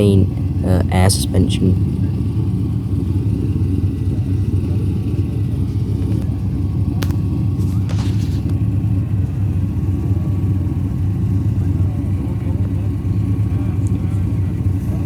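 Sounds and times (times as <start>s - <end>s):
car engine rumbling at low revs: 0.0s - 15.0s.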